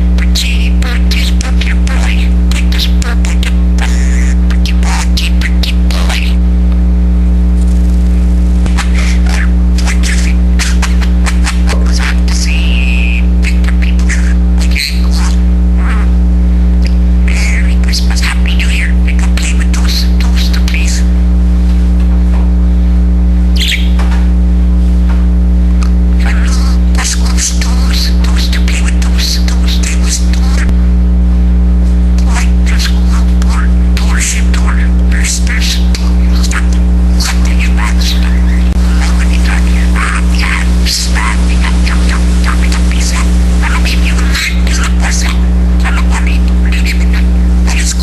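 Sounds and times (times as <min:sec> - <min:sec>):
low electrical hum: 0:00.0 - 0:48.0
budgerigar chattering: 0:00.1 - 0:06.4, 0:08.7 - 0:16.2, 0:16.8 - 0:21.1, 0:23.5 - 0:24.1, 0:25.8 - 0:30.7, 0:32.2 - 0:48.0.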